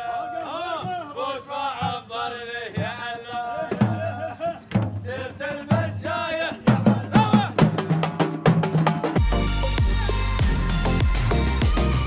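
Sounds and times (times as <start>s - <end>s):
men singing and chanting: 0.0s - 12.0s
frame drums and barrel drum: 0.6s - 12.0s.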